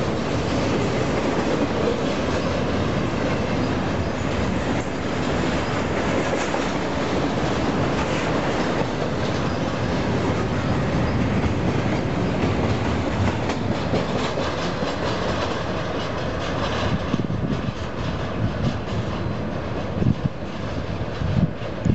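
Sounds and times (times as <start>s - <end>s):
freight train wheels rumbling: 0.0s - 21.9s.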